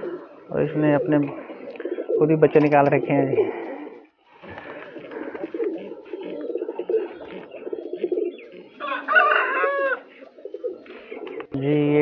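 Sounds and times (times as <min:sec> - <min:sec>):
high-pitched pigeon call: 0:00.0 - 0:12.0
pigeons cooing: 0:00.0 - 0:12.0.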